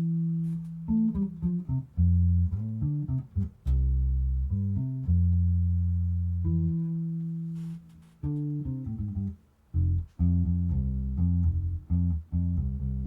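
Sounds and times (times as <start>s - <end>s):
bass guitar notes through amp: 0.0s - 13.0s.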